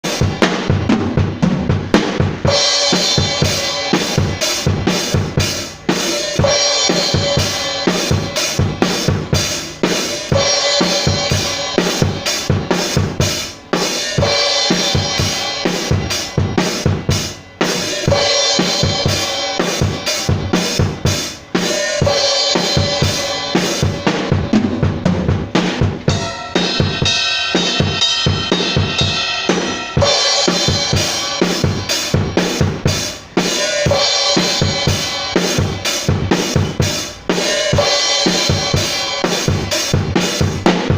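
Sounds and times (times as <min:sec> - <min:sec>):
drum kit beat: 0:00.0 - 0:40.9.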